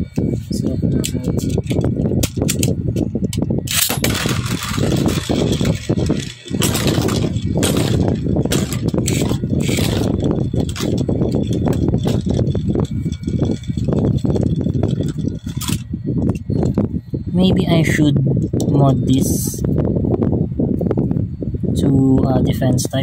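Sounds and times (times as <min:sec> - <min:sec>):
low rumble: 0:00.0 - 0:21.8.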